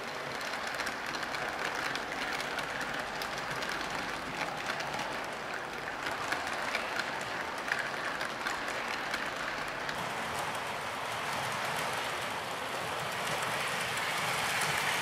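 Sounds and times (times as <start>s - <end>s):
model train wheels rattling on rail: 0.0s - 15.0s.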